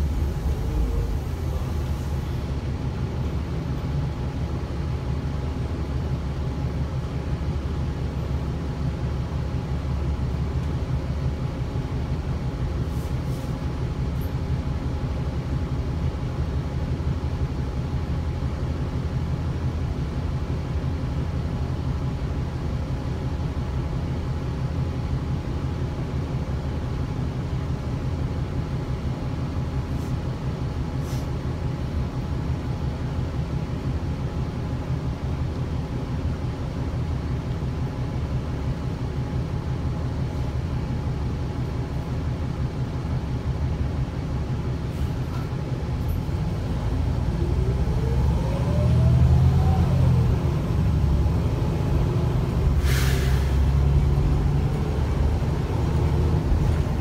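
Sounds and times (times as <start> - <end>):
bus engine rumble: 0.0 - 57.0.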